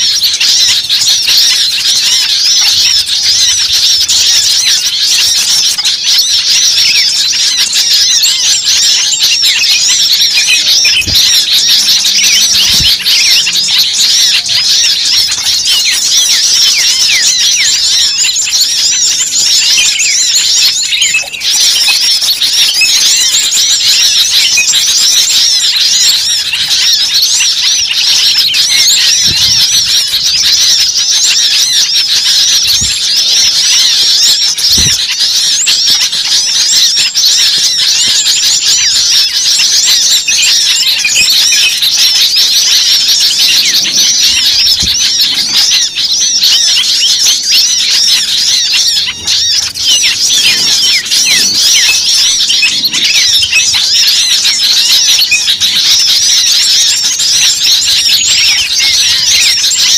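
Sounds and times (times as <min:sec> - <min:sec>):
small birds chirping chorus: 0:00.0 - 0:59.9.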